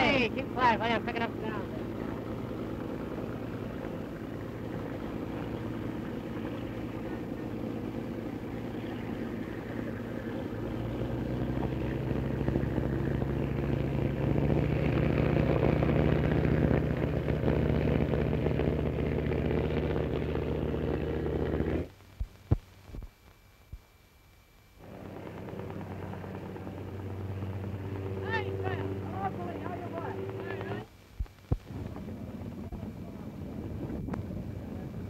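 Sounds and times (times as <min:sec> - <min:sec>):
motorboat engine humming: 0:00.0 - 0:23.1, 0:24.7 - 0:35.0.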